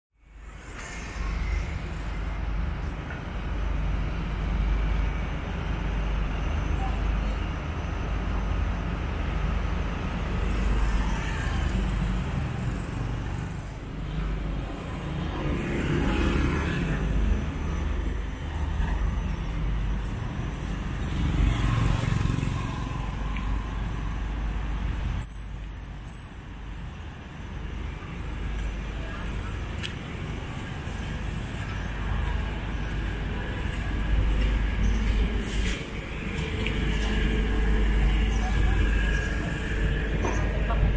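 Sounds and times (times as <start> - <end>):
vehicles passing: 0.2 - 40.9.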